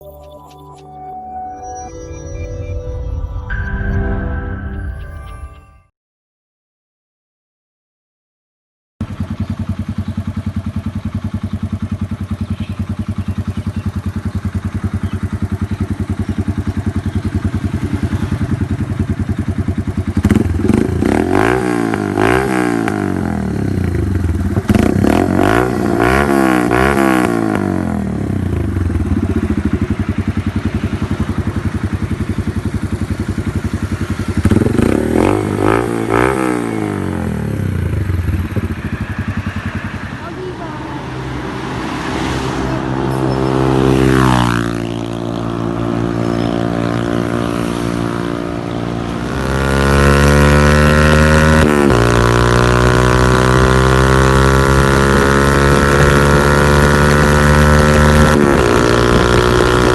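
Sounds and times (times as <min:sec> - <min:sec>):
motorcycle engine idling and revving: 0:09.0 - 0:59.9.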